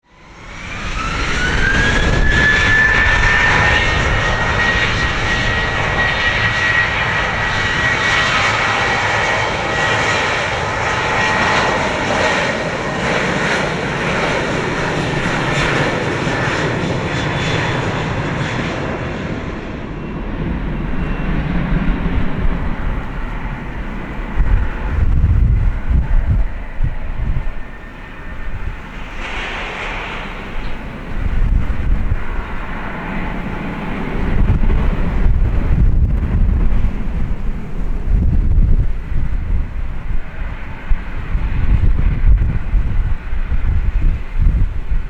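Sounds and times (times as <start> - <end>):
jet engine whine: 0.0 - 45.0
loud jet roar: 0.1 - 45.0.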